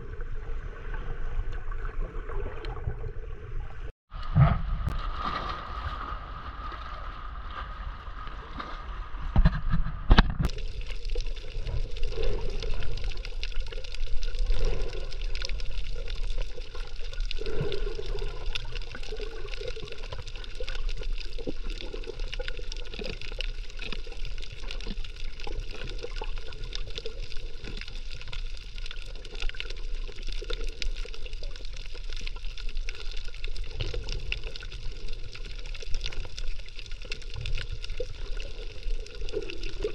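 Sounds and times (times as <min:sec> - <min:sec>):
water splashing: 0:00.4 - 0:39.9.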